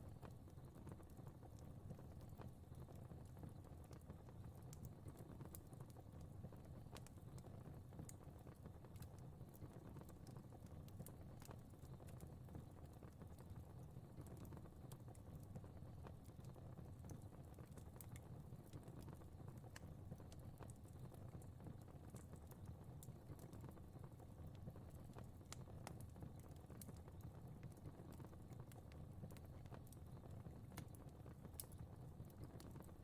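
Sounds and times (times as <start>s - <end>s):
fire crackling softly: 0.0s - 33.0s.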